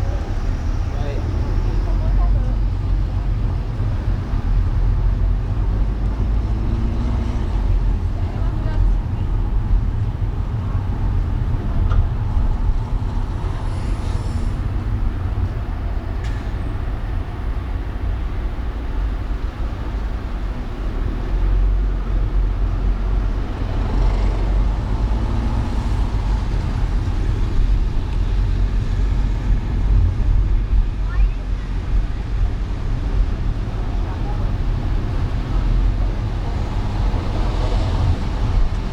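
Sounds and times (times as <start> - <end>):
road noise rumble: 0.0 - 38.9.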